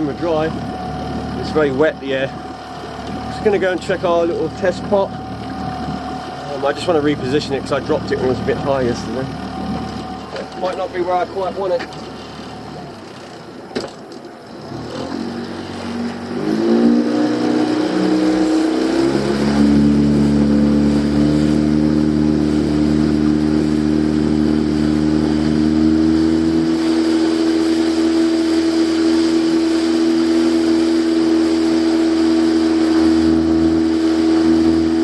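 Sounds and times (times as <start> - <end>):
boat motor revving: 0.0 - 35.0.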